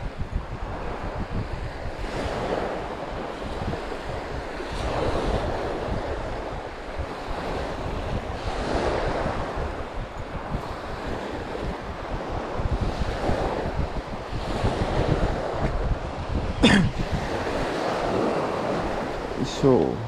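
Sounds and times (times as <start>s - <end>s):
small waves breaking on sand: 0.0s - 20.0s
wind rumbling on microphone: 0.0s - 20.0s.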